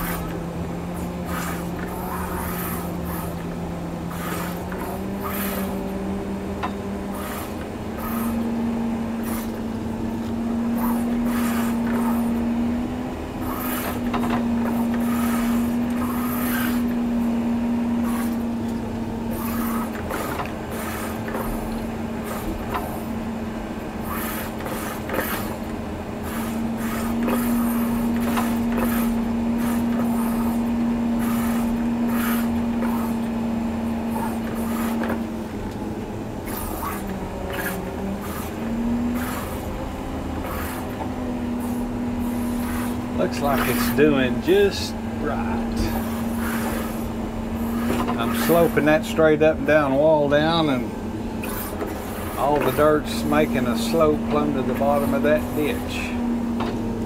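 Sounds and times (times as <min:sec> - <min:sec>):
blade scraping and rattling dirt: 0:00.0 - 0:56.2
diesel engine running under load: 0:00.0 - 0:57.0.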